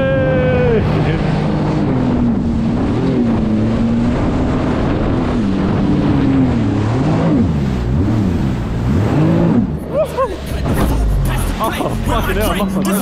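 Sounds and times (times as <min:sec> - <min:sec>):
jet ski engine revving: 0:00.0 - 0:13.0
wind: 0:00.0 - 0:13.0.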